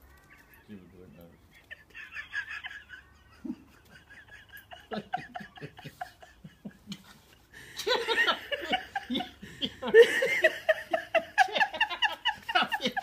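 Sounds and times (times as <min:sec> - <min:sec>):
person laughing: 0:01.4 - 0:13.0.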